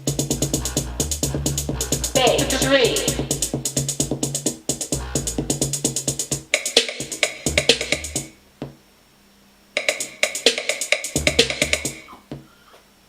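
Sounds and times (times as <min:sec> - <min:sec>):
electronic pop music: 0:00.0 - 0:08.3, 0:09.8 - 0:12.1.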